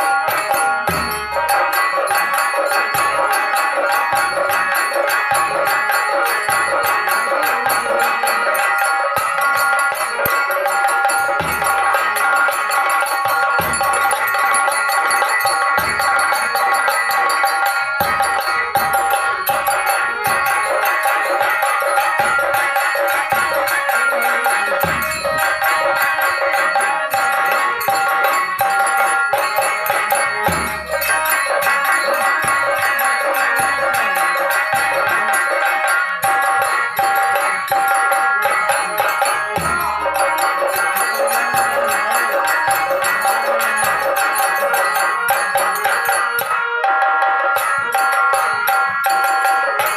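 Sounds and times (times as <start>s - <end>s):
folk dance music with drums: 0.0s - 49.9s
jingling rattling percussion: 0.0s - 49.9s
sustained melody instrument: 0.0s - 49.9s.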